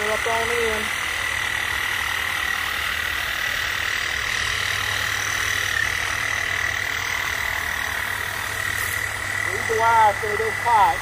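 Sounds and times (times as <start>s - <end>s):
constant high trill: 0.0s - 11.0s.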